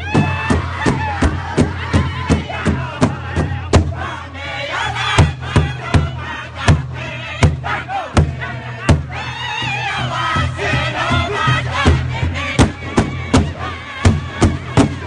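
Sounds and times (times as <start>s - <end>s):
large hide drum beats: 0.0s - 4.2s, 4.9s - 15.0s
group singing together: 0.0s - 15.0s.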